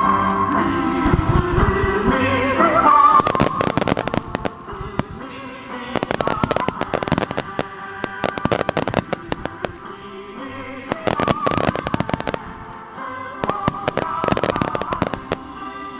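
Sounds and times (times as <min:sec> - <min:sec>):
music playing: 0:00.0 - 0:15.9
fireworks bursting and crackling: 0:00.8 - 0:15.9.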